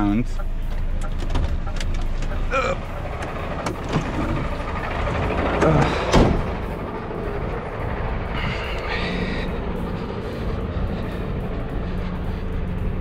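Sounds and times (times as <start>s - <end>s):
truck diesel engine rumbling: 0.0s - 13.0s
rattles and clicks: 0.3s - 13.0s.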